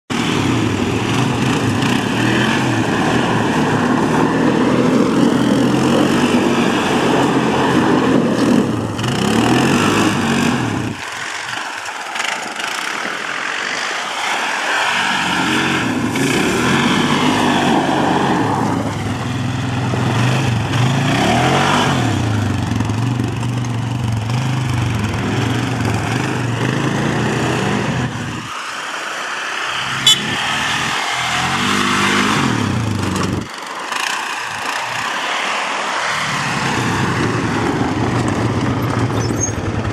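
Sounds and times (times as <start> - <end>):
quad bike engines revving: 0.1 - 39.9.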